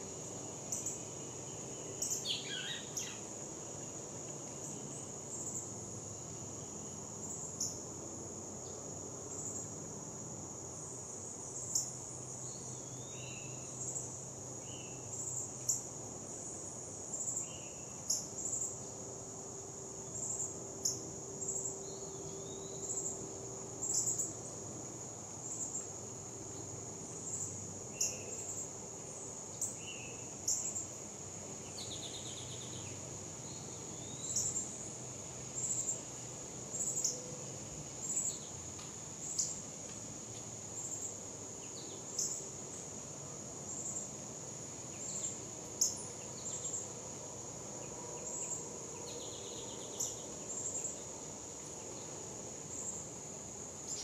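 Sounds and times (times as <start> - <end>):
insects buzzing in chorus: 0.0 - 54.0.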